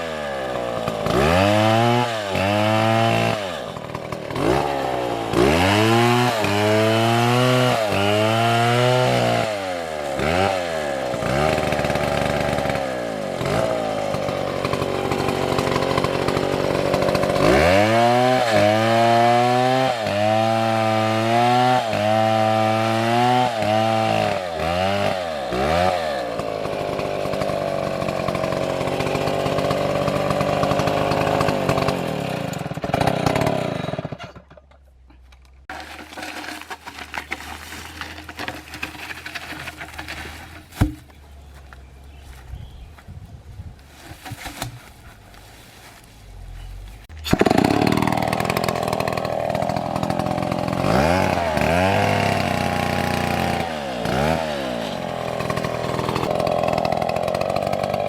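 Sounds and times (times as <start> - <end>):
chainsaw cutting wood: 0.0 - 34.8, 35.6 - 41.8, 43.9 - 45.5, 46.7 - 58.0.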